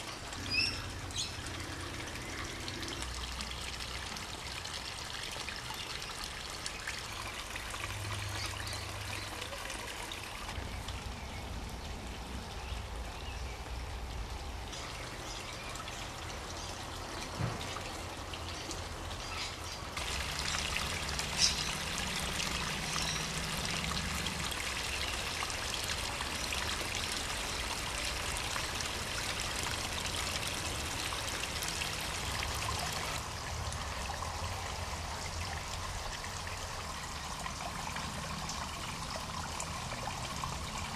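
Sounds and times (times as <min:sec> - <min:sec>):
waterfall trickling and splashing: 0:00.0 - 0:40.9.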